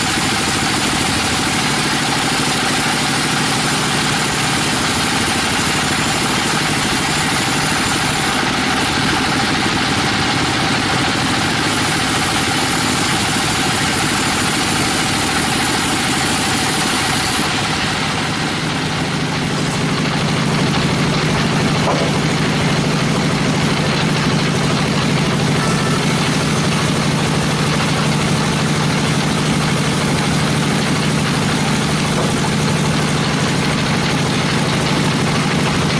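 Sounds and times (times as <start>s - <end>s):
bandsaw cutting wood: 0.0s - 35.9s.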